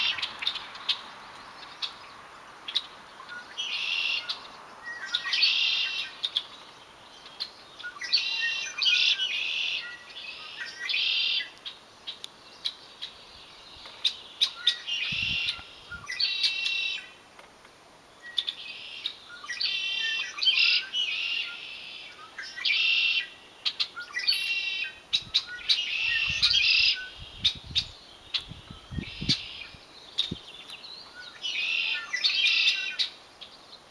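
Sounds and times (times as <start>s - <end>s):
songbirds trilling: 0.0s - 17.2s, 18.2s - 33.9s.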